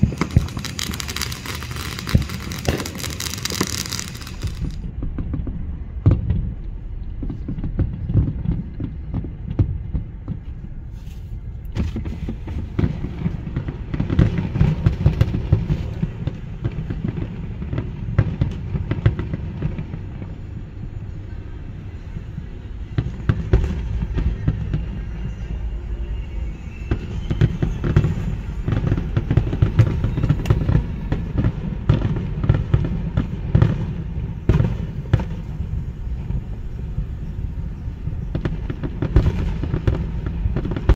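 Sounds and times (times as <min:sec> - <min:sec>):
fireworks crackle: 0:00.0 - 0:05.5, 0:07.2 - 0:20.9, 0:21.9 - 0:40.9
fireworks bangs: 0:00.0 - 0:06.6, 0:11.7 - 0:40.9
low rumble: 0:00.0 - 0:40.9.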